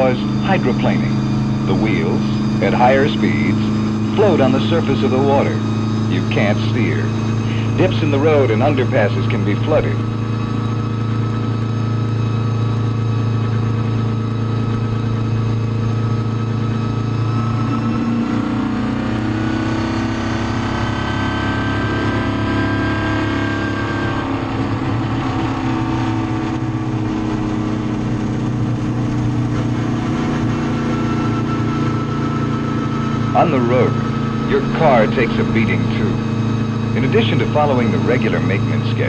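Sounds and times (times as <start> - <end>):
truck engine humming: 0.0 - 39.0.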